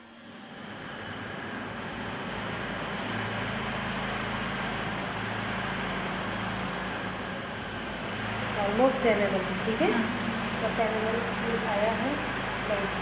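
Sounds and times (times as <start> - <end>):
low mechanical hum with hiss: 0.0 - 13.0.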